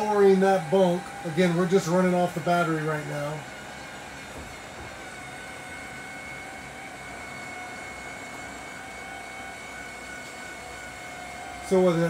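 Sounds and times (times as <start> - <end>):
motor humming with high whine: 0.0 - 12.0.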